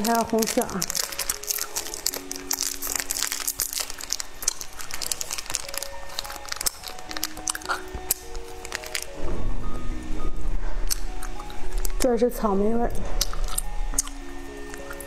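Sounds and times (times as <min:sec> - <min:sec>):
plastic wrapper crinkling: 0:00.0 - 0:09.8, 0:10.8 - 0:12.0, 0:13.0 - 0:15.0.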